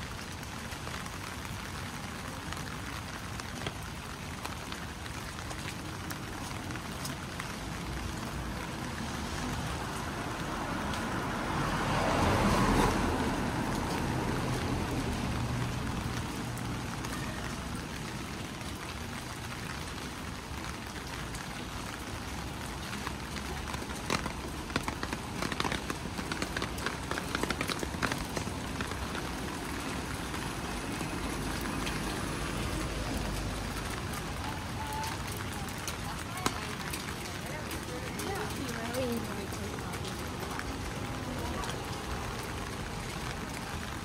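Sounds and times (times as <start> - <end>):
car passing on wet road: 0.0 - 44.0
rain on a street: 0.0 - 44.0
water drips and taps: 3.4 - 43.9.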